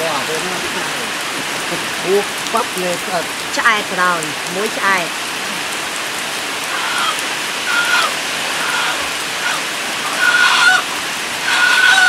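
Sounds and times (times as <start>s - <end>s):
rain on wet ground: 0.0s - 12.0s.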